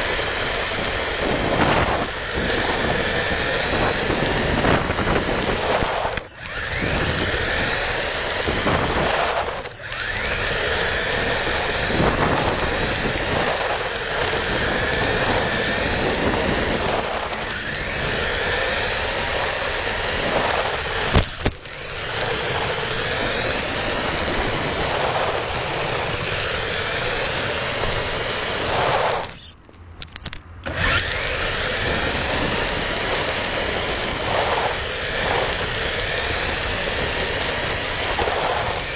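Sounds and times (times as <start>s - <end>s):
toy car motor whining: 0.0s - 38.9s
wheels rumbling on paving: 0.0s - 38.9s.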